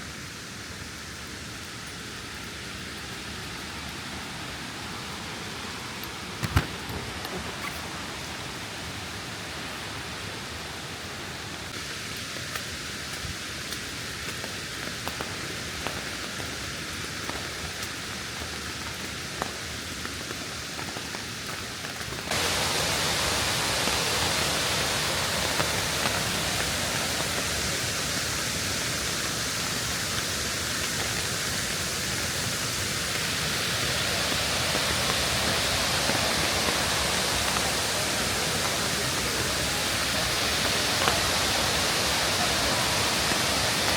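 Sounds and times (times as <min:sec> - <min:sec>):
waterfall rushing: 0:00.0 - 0:17.2, 0:22.2 - 0:43.9.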